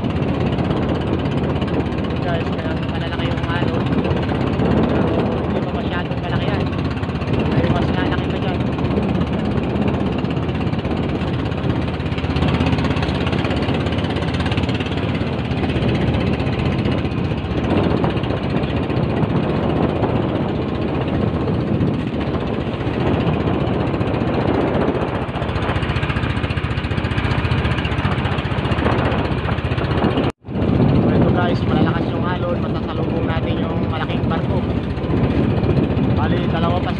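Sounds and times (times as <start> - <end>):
boat engine clattering: 0.0 - 36.9.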